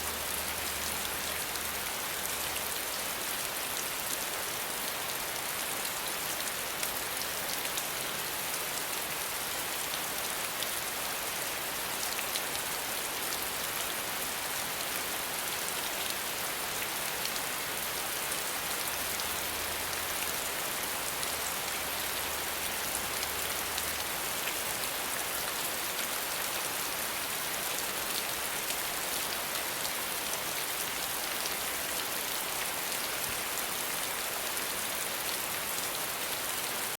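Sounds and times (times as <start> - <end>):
rain hissing on a surface: 0.0 - 36.9.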